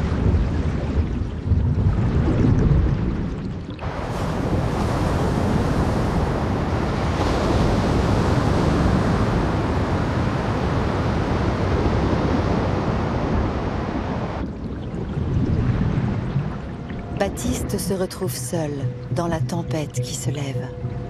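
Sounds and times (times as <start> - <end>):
waves churning and breaking: 0.0 - 19.8.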